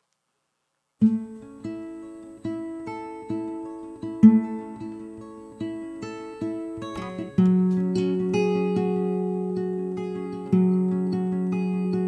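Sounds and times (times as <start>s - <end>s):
acoustic guitar plucked notes: 1.0s - 12.0s.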